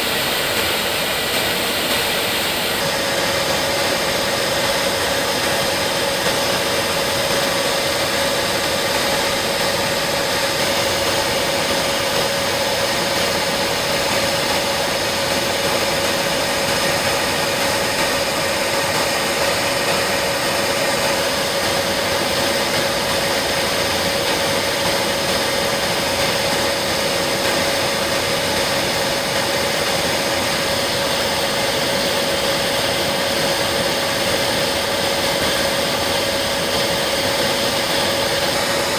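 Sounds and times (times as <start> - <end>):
aircraft cockpit engine noise: 0.0 - 38.9.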